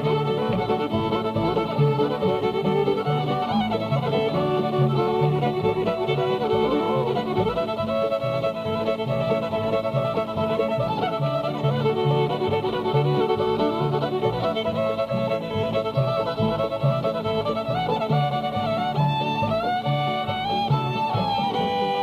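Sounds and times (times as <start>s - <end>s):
fiddle tune: 0.0s - 22.0s
strummed string accompaniment: 0.0s - 22.0s.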